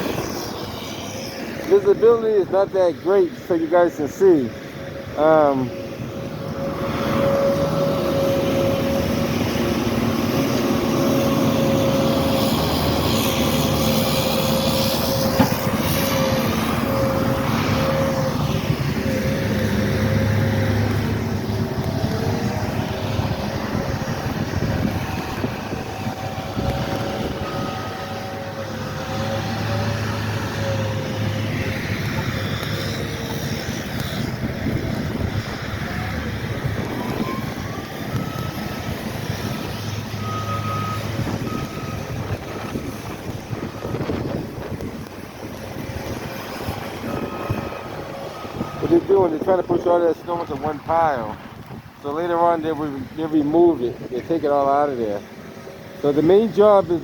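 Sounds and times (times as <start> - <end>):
loader engines with whine: 0.0 - 57.0.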